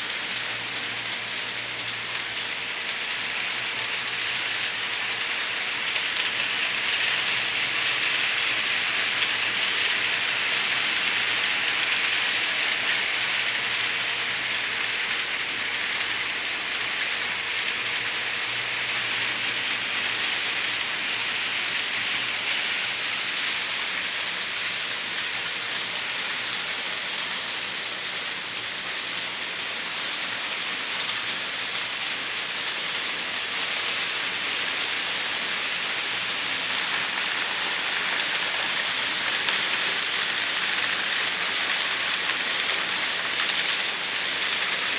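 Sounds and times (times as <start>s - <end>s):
model train wheels rattling on rails: 0.0s - 44.9s
small locomotive motors: 0.0s - 44.9s.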